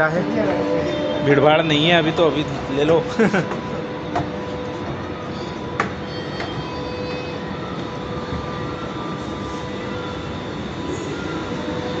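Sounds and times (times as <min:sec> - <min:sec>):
train rumble and hum: 0:00.0 - 0:12.0
whining tones: 0:00.0 - 0:12.0.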